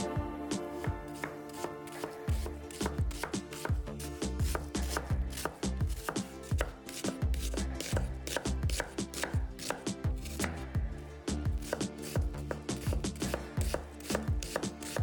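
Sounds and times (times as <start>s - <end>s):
background music with drum hits: 0.0s - 15.0s
knife chopping on cutting board: 0.6s - 10.6s, 11.6s - 15.0s.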